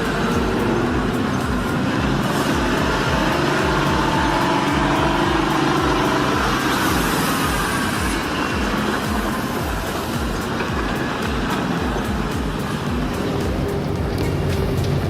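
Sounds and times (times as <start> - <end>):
engine whine: 0.0 - 15.0
truck engine running under load: 0.0 - 15.0.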